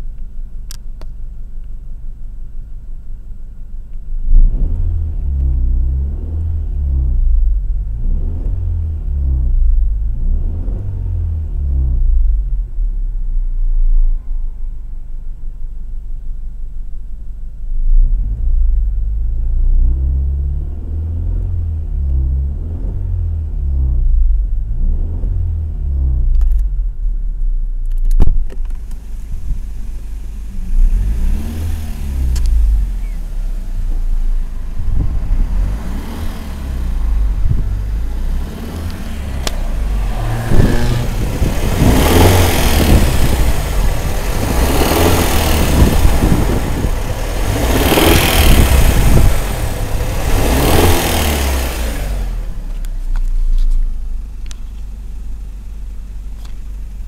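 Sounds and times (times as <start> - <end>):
car engine revving: 4.0 - 16.0, 17.7 - 56.3.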